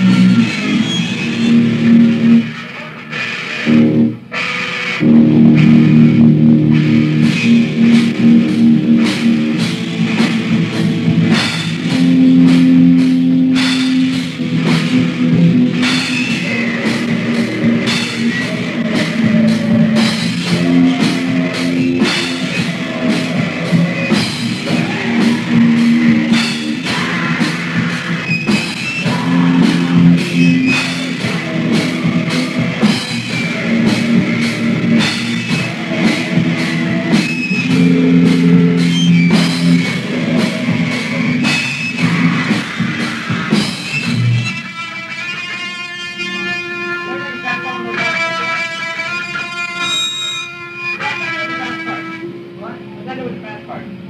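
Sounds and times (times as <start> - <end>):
rapid drum kit hits: 0.0 - 44.7
punk band playing: 0.0 - 54.0.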